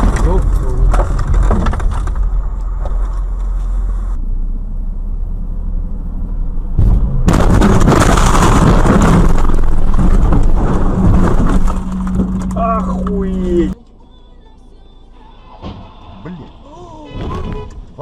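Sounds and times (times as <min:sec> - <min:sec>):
road and engine noise: 0:00.0 - 0:18.0.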